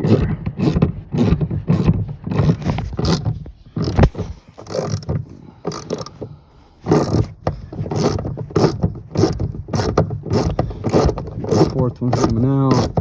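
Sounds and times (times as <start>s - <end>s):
ratchet wrench clicking: 0.0s - 3.2s, 3.8s - 4.0s, 4.6s - 6.2s, 6.9s - 13.0s.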